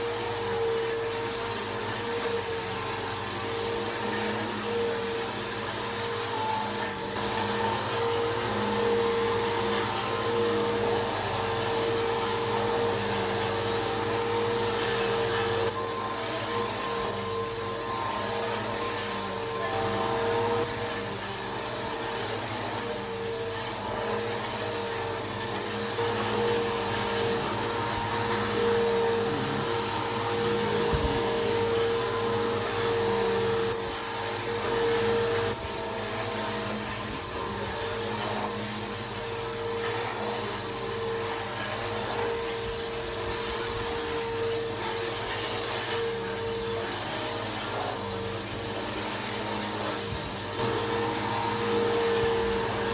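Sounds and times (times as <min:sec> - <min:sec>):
vacuum cleaner running: 0:00.0 - 0:52.9.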